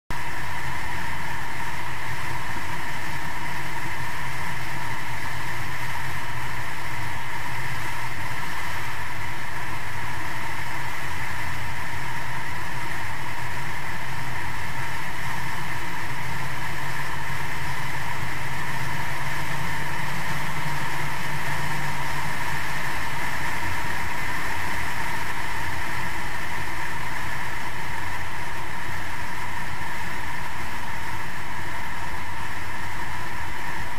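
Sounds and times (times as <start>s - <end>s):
outboard motor running at high speed: 0.1s - 33.9s.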